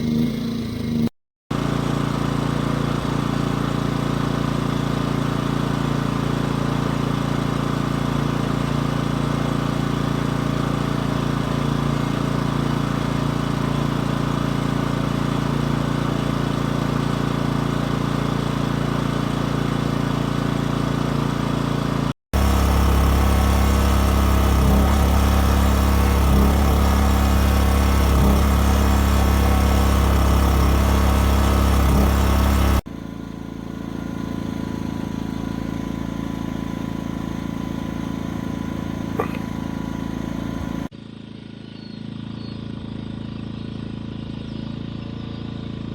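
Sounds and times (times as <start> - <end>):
small generator engine running: 0.0 - 45.9.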